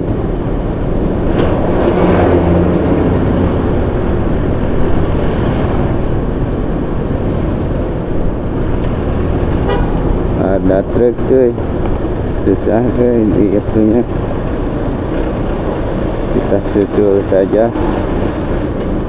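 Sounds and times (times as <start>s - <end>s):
wind rushing: 0.0s - 16.6s
vehicle engine hum: 0.0s - 19.0s.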